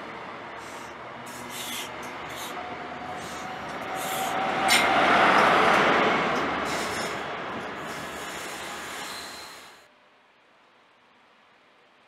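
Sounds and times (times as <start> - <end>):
train coaches rolling past: 0.0 - 9.9.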